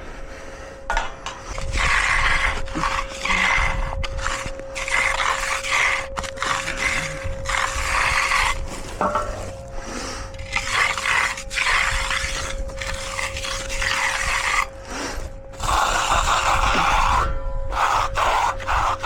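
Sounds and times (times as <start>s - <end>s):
faint hum: 0.0s - 19.0s
tool scraping wet concrete: 0.9s - 19.0s.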